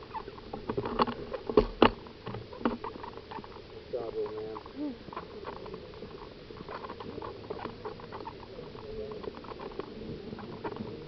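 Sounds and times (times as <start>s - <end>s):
light clicks and rustling: 0.0s - 11.0s.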